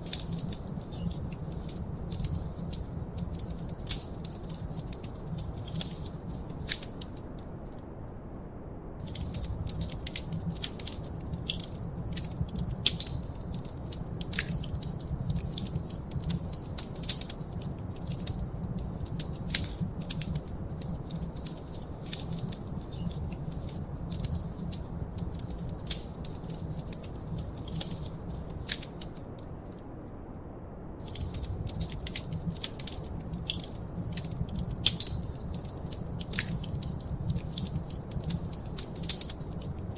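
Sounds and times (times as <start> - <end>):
wood fire crackling and popping: 0.0 - 7.8, 9.0 - 29.8, 31.0 - 39.9
low rumble of flames: 0.0 - 39.9.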